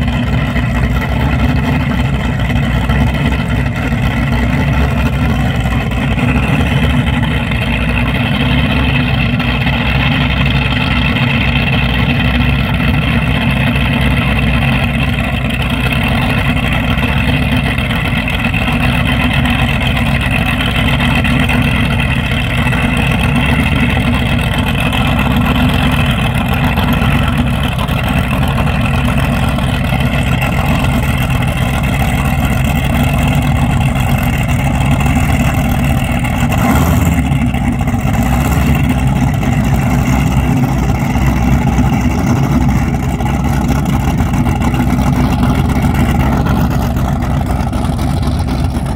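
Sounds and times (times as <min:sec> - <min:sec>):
powerboat engines idling: 0:00.0 - 0:48.9.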